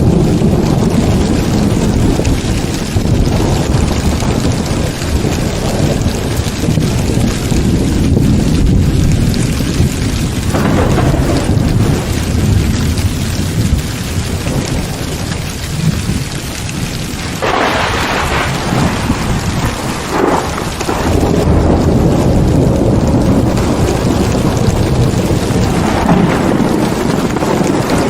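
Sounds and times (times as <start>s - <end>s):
heavy rain pouring: 0.0s - 28.0s
rolling thunder: 0.0s - 28.0s.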